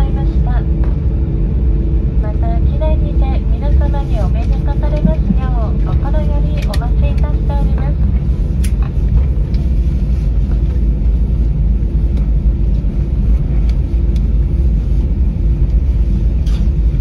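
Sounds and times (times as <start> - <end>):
airliner cabin rumble while taxiing: 0.0 - 17.0.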